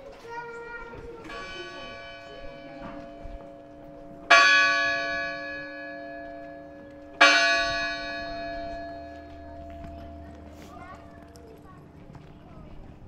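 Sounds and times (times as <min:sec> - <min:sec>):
church bell ringing: 0:01.1 - 0:11.6.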